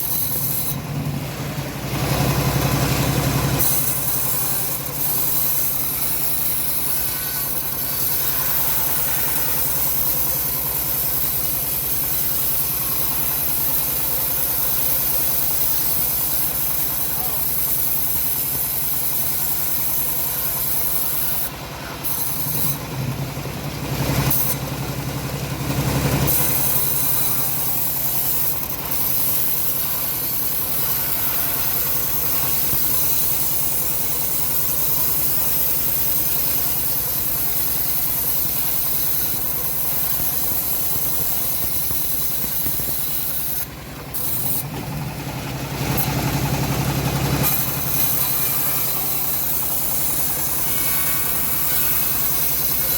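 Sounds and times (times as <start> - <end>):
bandsaw blade sawing log: 0.0 - 52.9
engine humming: 0.0 - 52.9.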